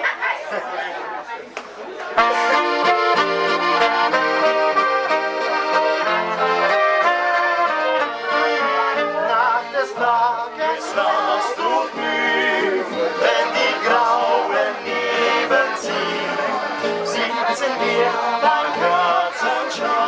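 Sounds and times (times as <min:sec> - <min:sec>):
accordion playing slow folk song: 0:02.2 - 0:20.0.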